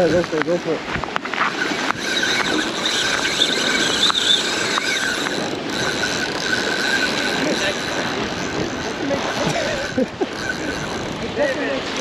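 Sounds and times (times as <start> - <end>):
fishing reel whining: 1.4 - 12.0.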